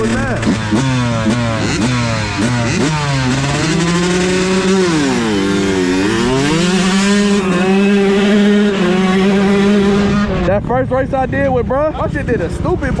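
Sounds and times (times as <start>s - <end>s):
dirt bike engine at high revs: 0.0s - 13.0s.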